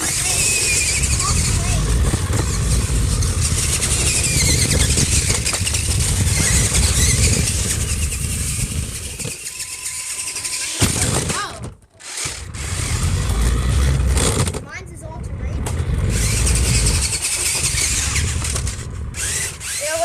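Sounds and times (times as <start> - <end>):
heavy low rumble: 0.0 - 9.1, 12.4 - 19.6
small electric motors whining: 0.0 - 20.0
wheels running over rough ground: 0.0 - 20.0.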